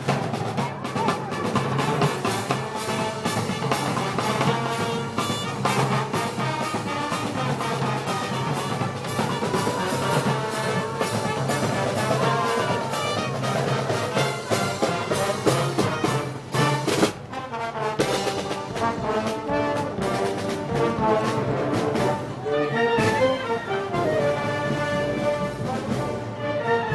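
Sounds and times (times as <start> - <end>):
brass band music: 0.0 - 26.9
steady drum beat: 0.0 - 26.9.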